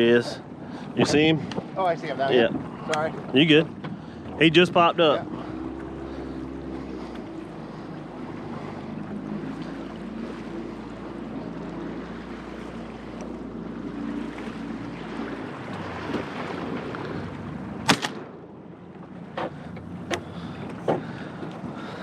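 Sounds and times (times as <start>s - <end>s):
boat motor running: 0.0s - 22.0s
water noise: 0.0s - 22.0s
wind: 0.0s - 22.0s.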